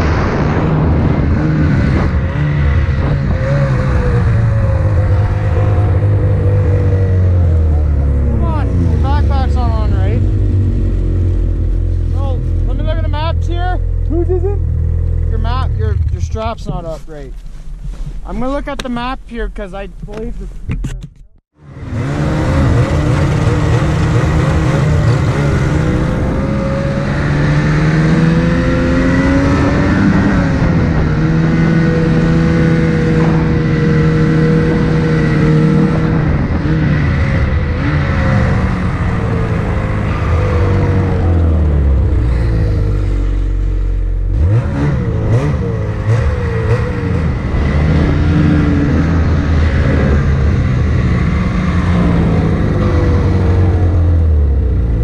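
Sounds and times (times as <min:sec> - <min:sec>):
snowmobile engine revving: 0:00.0 - 0:17.3, 0:18.1 - 0:20.5, 0:21.6 - 0:55.0.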